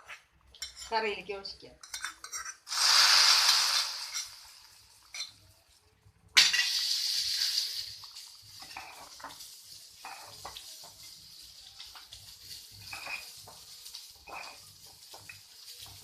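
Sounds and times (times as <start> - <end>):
pan and spoon clinking: 1.8 - 5.5, 6.4 - 16.0
hot oil sizzling in curry: 1.9 - 16.0.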